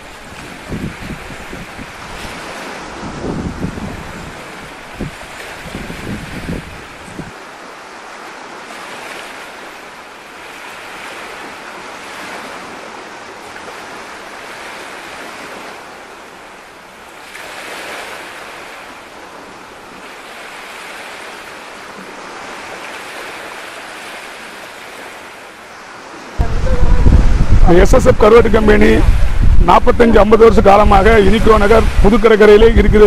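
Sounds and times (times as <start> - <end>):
sea surf washing ashore: 0.0 - 33.0.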